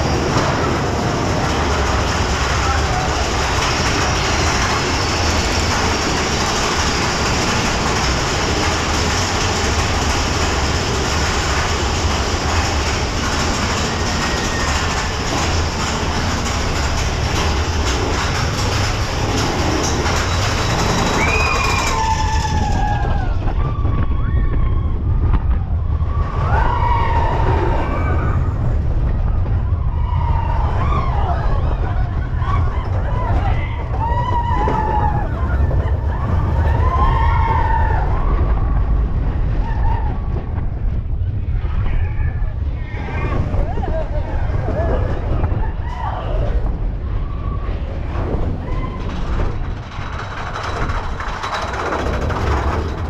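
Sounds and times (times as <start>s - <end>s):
roller coaster cars rumbling on rails: 0.0s - 53.0s.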